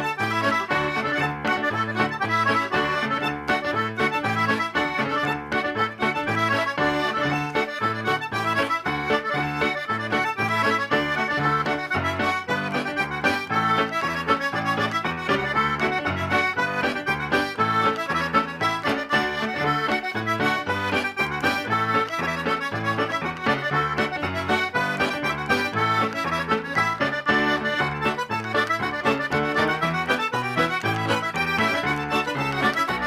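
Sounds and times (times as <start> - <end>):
accordion reel: 0.0 - 33.0
piano accompaniment: 0.0 - 33.0.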